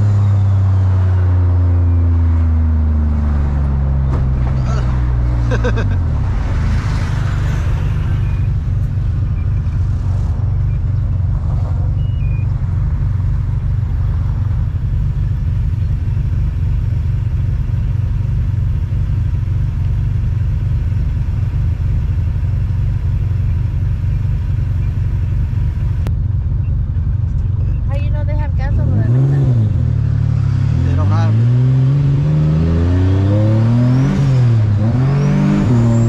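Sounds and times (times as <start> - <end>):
road noise on bumpy surface: 0.0 - 36.0.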